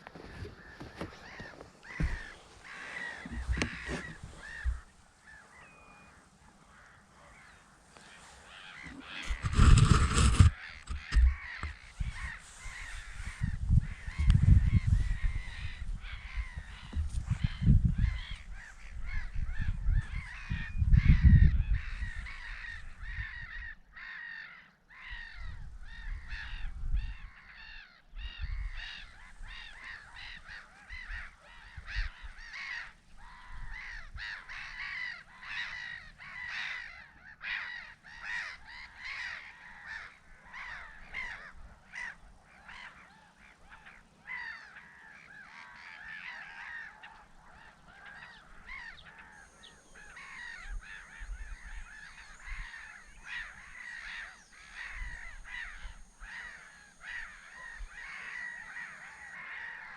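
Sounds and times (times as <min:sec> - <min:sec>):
flock of birds cawing: 0:00.0 - 0:59.9.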